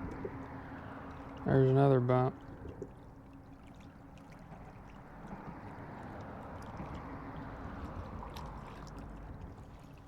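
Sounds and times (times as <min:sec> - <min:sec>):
lake water lapping at shore: 0:00.0 - 0:10.0.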